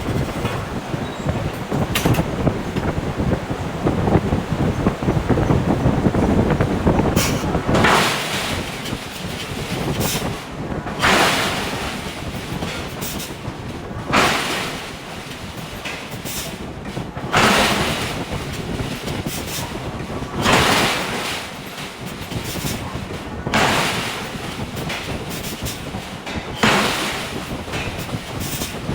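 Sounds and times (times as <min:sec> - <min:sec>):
forging hammer blows: 0:00.0 - 0:28.9
machinery rumble: 0:00.0 - 0:28.9.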